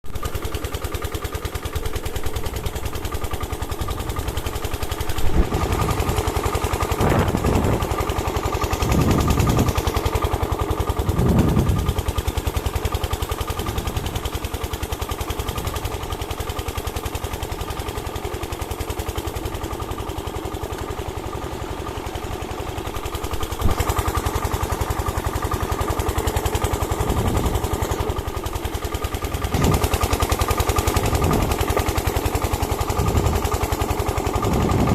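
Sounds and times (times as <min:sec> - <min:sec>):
small engine running: 0:00.1 - 0:34.9.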